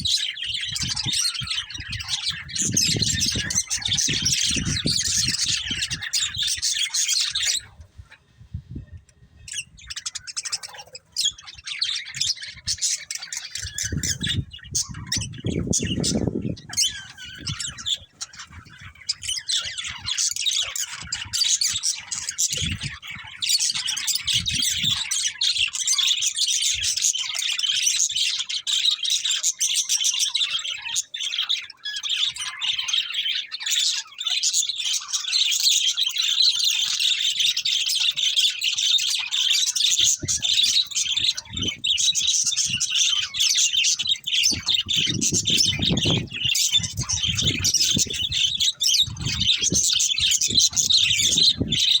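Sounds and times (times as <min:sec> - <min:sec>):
budgerigars chirping: 0:00.0 - 0:08.1, 0:09.4 - 0:52.0.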